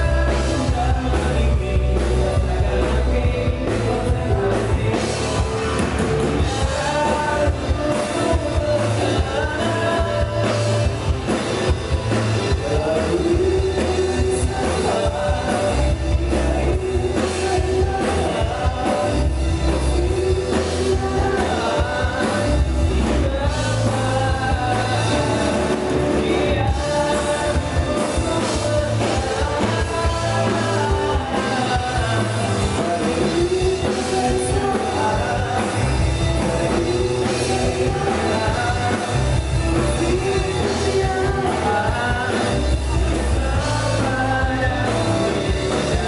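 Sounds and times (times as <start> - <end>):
bass guitar: 0.0 - 46.0
drum kit: 0.0 - 46.0
person singing: 0.0 - 46.0.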